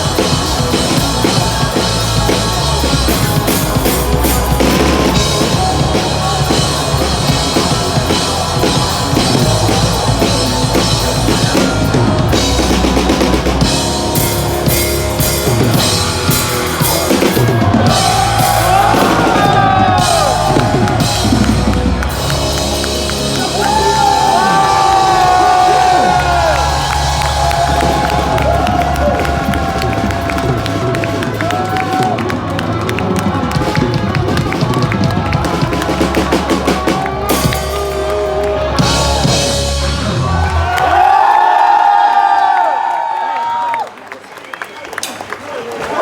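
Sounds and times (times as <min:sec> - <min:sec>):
hard rock band playing loudly: 0:00.0 - 0:41.2.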